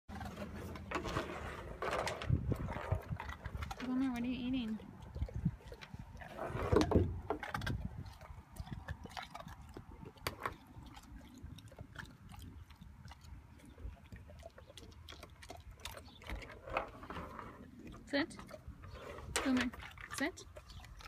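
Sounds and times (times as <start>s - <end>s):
puppy chewing on wooden decking: 0.1s - 21.0s.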